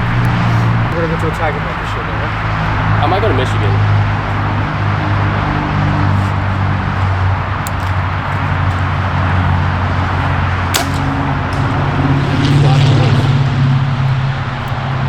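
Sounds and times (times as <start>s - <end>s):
outdoor noise: 0.0s - 15.0s
vehicle engine idling: 0.0s - 15.0s.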